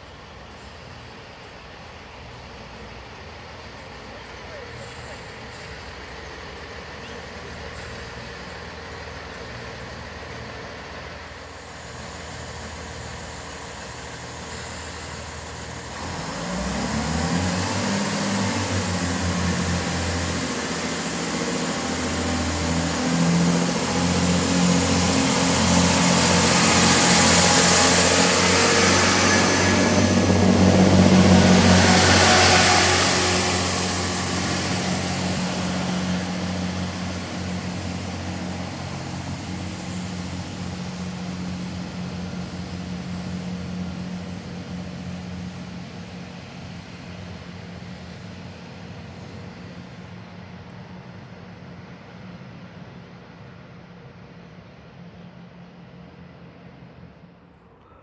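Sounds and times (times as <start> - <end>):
wheel and rail hiss: 0.0 - 51.5
diesel train engines revving: 0.0 - 58.0.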